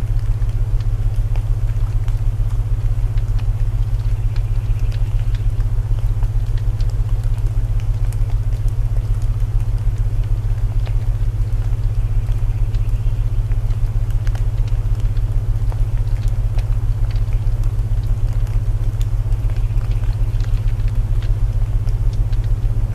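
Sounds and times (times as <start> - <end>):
burning wood crackling: 0.0 - 22.9
low binaural tones droning: 0.0 - 22.9
rain hiss: 0.0 - 22.9.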